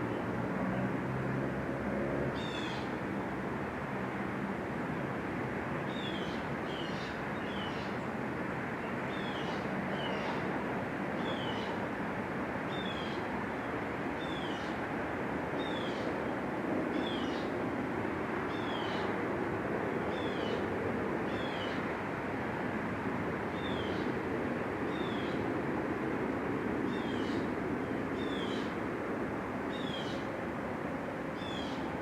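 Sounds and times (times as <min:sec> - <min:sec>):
steady background noise: 0:00.0 - 0:32.0.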